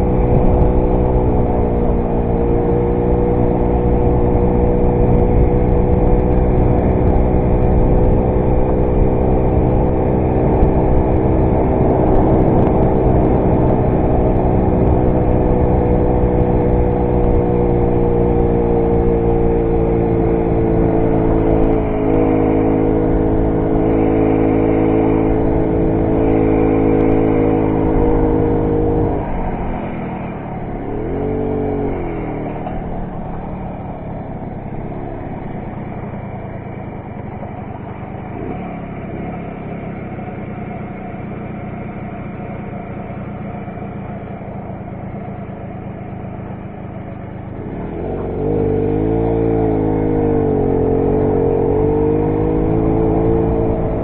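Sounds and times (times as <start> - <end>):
moped engine running: 0.0 - 54.0.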